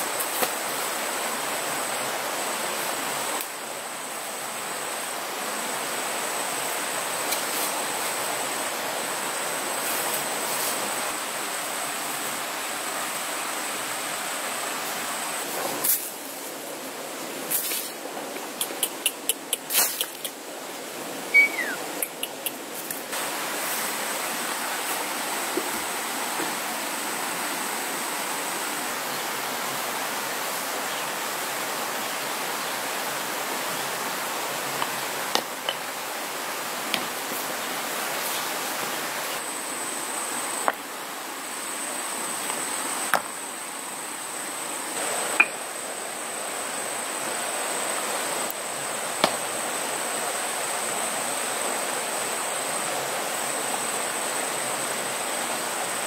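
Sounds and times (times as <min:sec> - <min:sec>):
flowing water: 0:00.0 - 0:56.0
high insect whine: 0:00.0 - 0:56.0.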